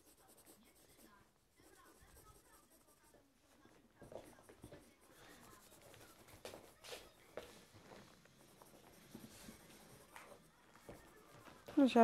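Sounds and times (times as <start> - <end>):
pencil scratching on paper: 0.0 - 3.3, 4.0 - 12.0.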